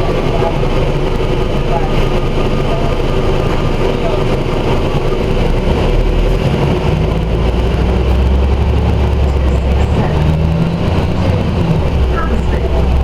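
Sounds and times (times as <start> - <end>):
bus diesel engine droning: 0.0 - 13.0.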